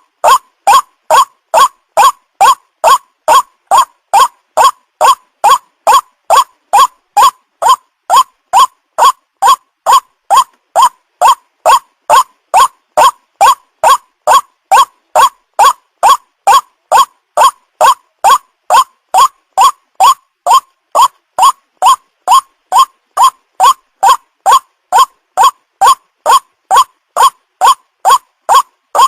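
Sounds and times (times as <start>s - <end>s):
waterhen call: 0.0s - 29.0s.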